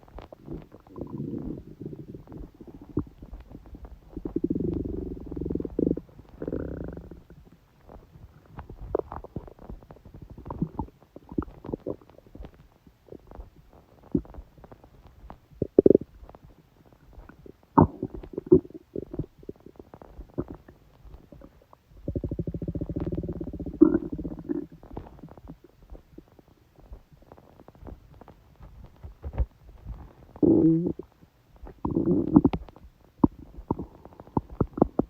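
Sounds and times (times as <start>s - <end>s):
stomach gurgling and rumbling: 0.0s - 35.0s.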